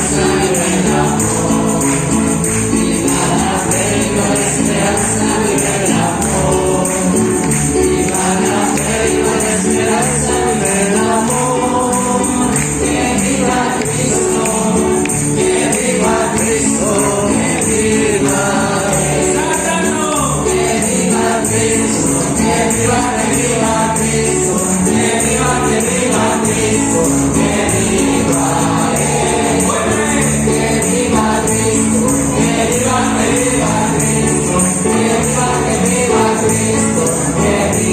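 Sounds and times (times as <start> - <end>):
group singing over instruments: 0.0 - 37.9
tambourine shaking: 0.0 - 37.9.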